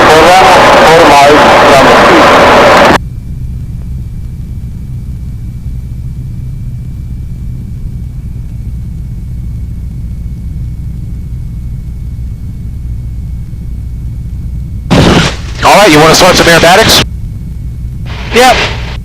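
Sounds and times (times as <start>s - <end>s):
airplane engine rumble in cockpit: 0.0s - 19.0s
faint high whine: 0.0s - 19.0s.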